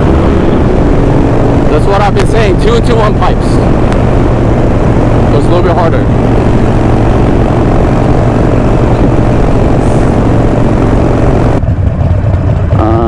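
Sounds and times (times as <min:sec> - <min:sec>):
wind rush over microphone: 0:00.0 - 0:11.7
motorcycle engine running: 0:00.0 - 0:13.0.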